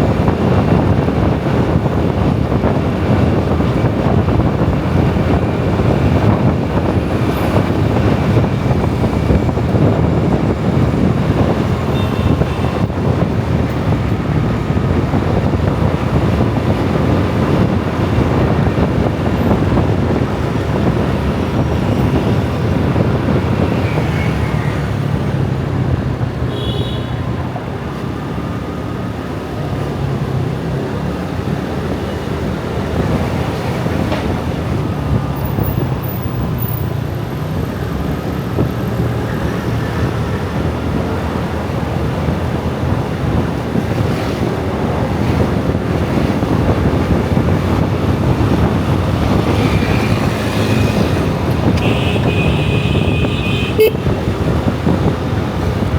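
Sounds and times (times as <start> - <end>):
scooter traffic rumble: 0.0 - 55.9.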